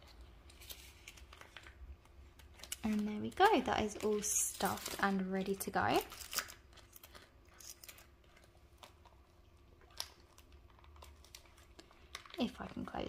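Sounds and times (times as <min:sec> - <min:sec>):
low steady hum: 0:00.0 - 0:13.0
plastic binder crinkling and clicking: 0:00.0 - 0:13.0.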